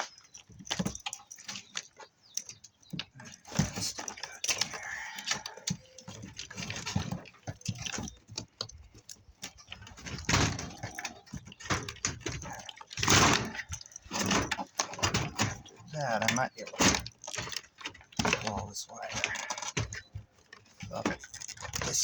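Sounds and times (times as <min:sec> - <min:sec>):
clicks and rattles of parts: 0:00.0 - 0:22.0.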